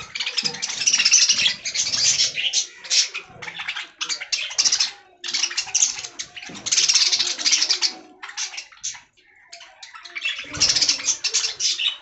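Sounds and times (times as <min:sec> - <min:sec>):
budgerigars chattering and warbling: 0:00.0 - 0:12.0.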